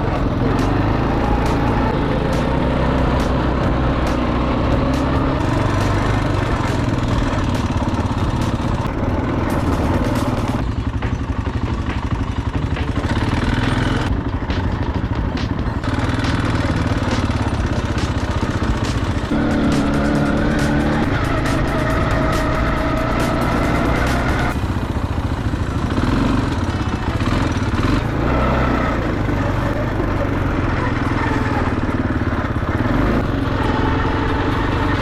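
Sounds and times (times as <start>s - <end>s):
quad bike engine: 0.0s - 35.0s.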